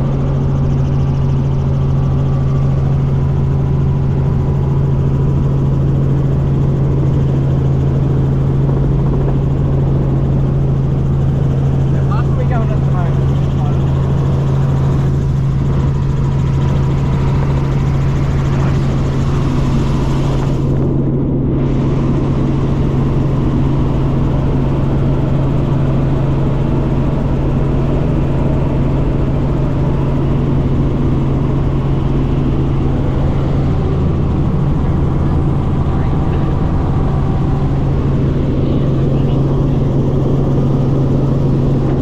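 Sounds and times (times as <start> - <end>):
helicopter engine and rotors: 0.0 - 42.0.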